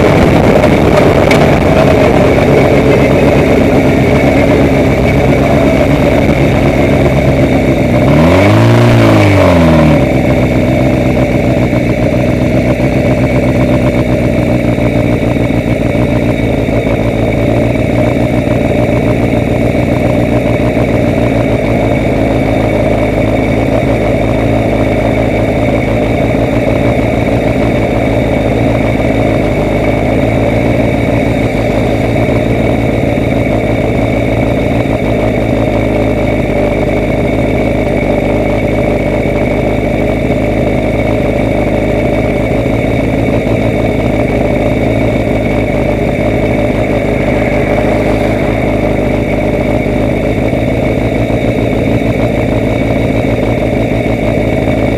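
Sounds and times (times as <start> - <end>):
loud travel noise: 0.0 - 54.9
vehicle engine running: 0.0 - 54.9.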